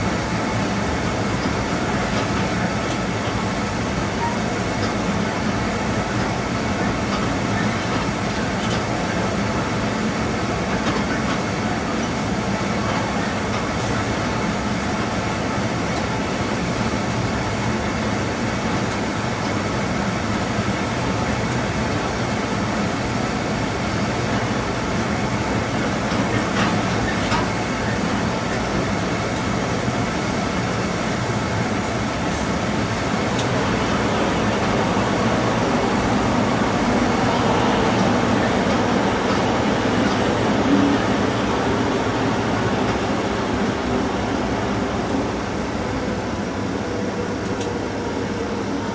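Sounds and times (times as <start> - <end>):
train wheels running on rails: 0.0 - 48.9.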